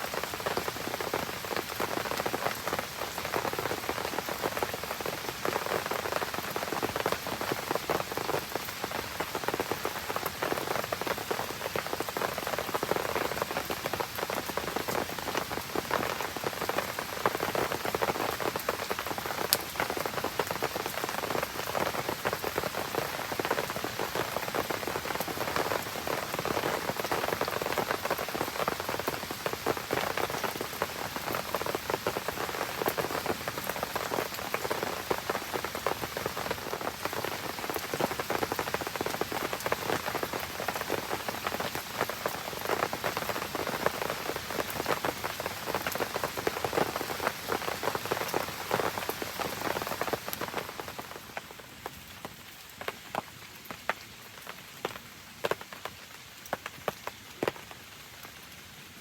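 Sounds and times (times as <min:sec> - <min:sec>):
rain pattering on leaves: 0:00.0 - 0:59.0
separate raindrops: 0:00.0 - 0:59.0.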